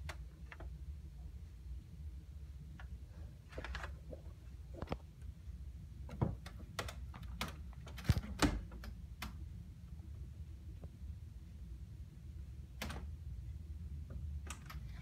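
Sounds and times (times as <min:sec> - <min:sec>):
low steady rumble: 0:00.0 - 0:06.9, 0:08.8 - 0:15.0.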